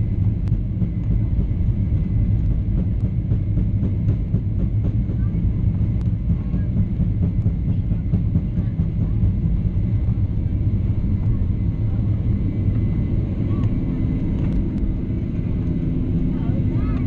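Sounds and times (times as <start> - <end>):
airplane cabin takeoff rumble: 0.0 - 17.0.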